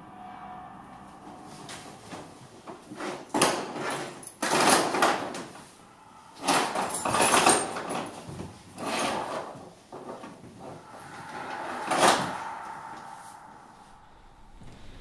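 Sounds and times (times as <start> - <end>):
objects scraping and rattling: 0.6 - 14.0.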